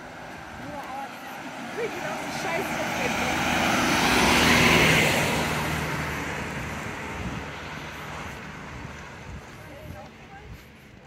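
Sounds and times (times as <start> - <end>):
van driving past: 0.0 - 10.2.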